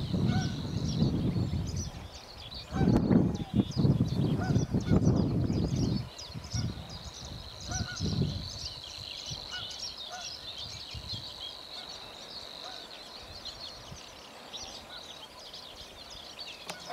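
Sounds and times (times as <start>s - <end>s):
low bird calls: 0.0s - 16.9s
small birds chirping: 0.0s - 16.9s.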